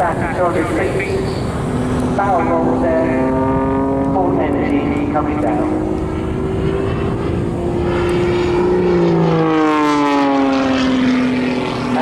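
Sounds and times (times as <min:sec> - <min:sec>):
biplane passing by: 0:00.0 - 0:12.0.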